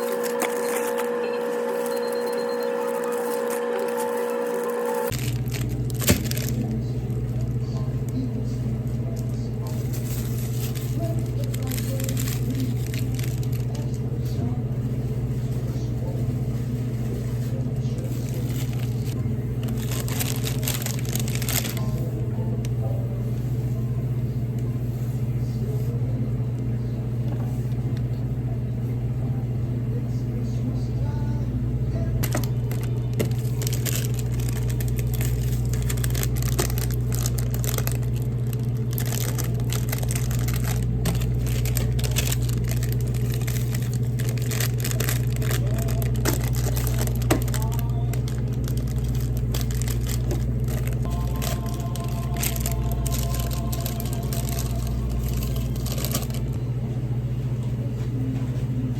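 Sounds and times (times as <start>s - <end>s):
low machine hum: 0.0s - 58.9s.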